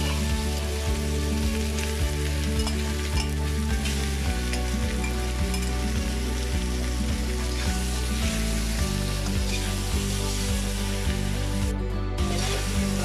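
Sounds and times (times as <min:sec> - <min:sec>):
background music with beat: 0:00.0 - 0:13.0
chicken sizzling in a wok: 0:00.0 - 0:13.0.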